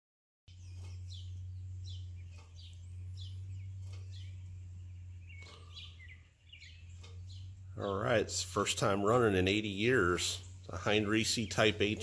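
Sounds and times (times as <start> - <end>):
small birds chirping: 0.5 - 12.0
steady low hum: 0.5 - 12.0.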